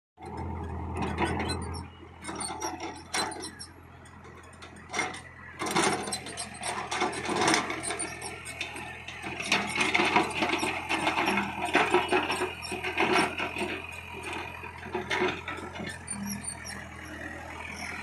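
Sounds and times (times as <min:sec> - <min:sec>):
excavator engine hum: 0:00.2 - 0:18.0
metallic clanks and rattles: 0:00.3 - 0:17.0.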